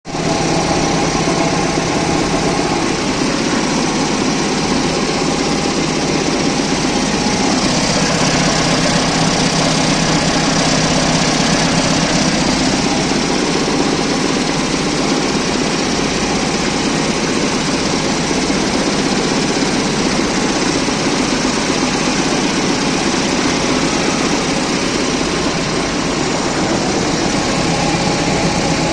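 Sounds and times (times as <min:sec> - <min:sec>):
compressor running: 0:00.1 - 0:28.9.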